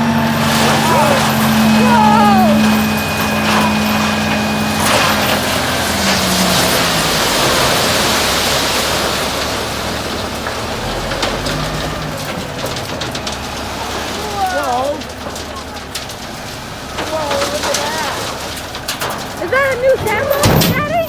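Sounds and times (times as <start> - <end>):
low engine hum: 0.0 - 21.0
truck load sliding out: 0.0 - 21.0.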